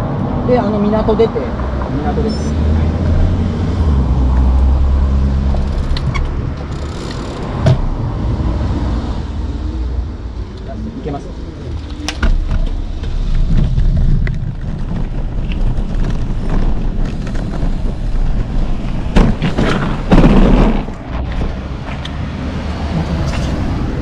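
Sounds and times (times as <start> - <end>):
wind buffeting microphone: 0.0 - 10.5, 11.4 - 24.0
road and traffic rumble: 0.0 - 24.0.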